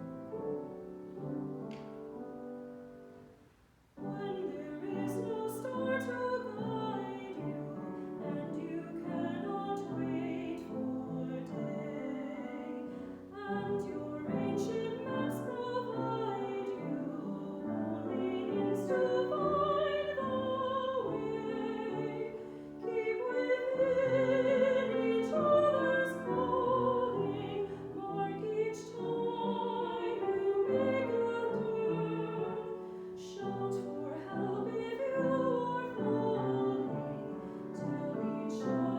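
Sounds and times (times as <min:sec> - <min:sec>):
church choir singing: 0:04.0 - 0:38.9.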